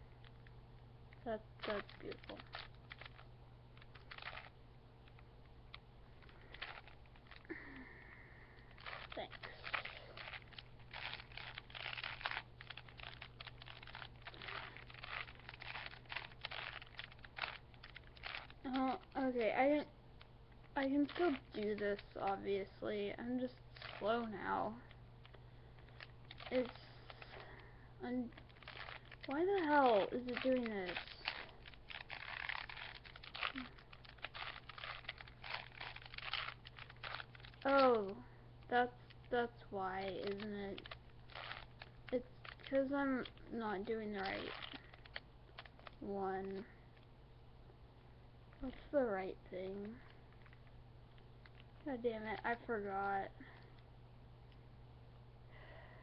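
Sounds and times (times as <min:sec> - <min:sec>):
puzzle cube plastic clicks: 0:01.1 - 0:07.8, 0:08.6 - 0:47.1, 0:49.7 - 0:52.9.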